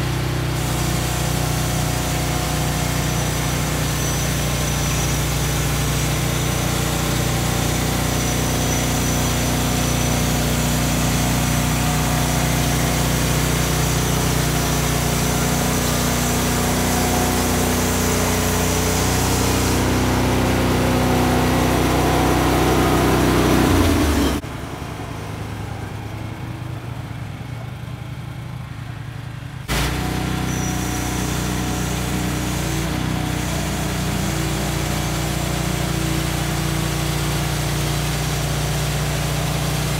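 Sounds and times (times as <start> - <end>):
sawmill gas engine sawing log: 0.0 - 24.5, 29.6 - 39.9.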